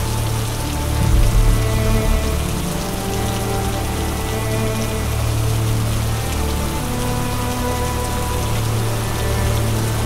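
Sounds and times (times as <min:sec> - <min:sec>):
music with long low notes: 0:00.0 - 0:10.0
steady rain hiss: 0:00.0 - 0:10.0.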